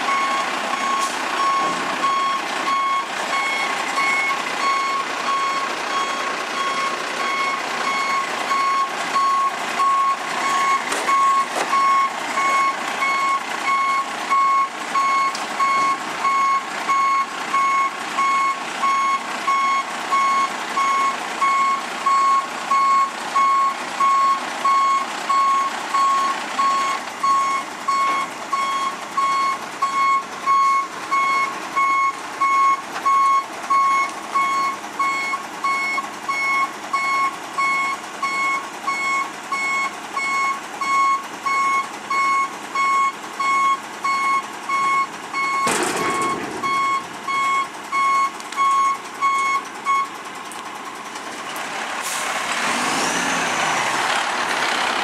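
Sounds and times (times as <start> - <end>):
truck warning beeper: 0.0 - 50.2
truck engine running: 0.0 - 55.0.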